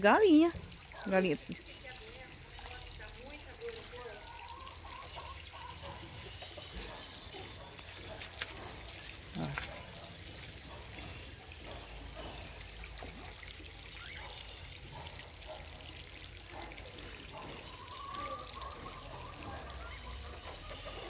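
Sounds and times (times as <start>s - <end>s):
water pouring into a pond: 0.0s - 21.0s.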